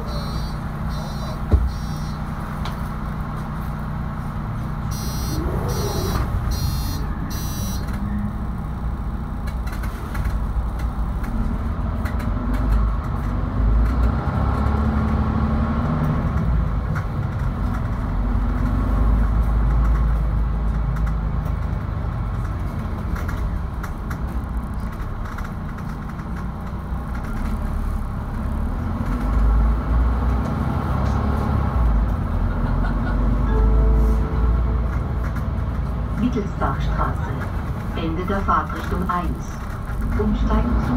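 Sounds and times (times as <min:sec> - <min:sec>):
bus engine droning: 0:00.0 - 0:40.9.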